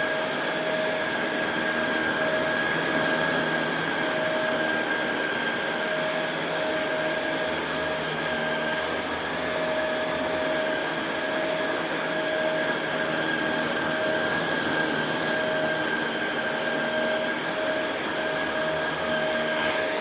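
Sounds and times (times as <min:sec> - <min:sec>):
upright vacuum running on carpet: 0:00.0 - 0:20.0.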